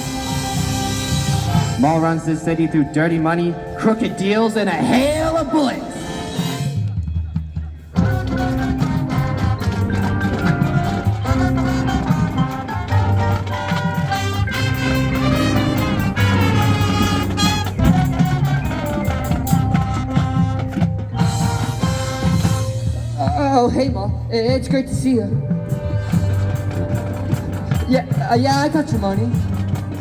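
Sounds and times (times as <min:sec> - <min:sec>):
steady drum beat: 0:00.0 - 0:02.7, 0:05.0 - 0:30.0
marching band playing: 0:00.0 - 0:30.0.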